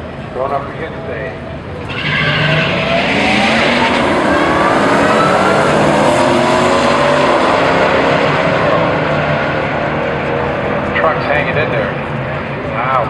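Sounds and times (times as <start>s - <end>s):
car engine accelerating: 1.8s - 13.0s.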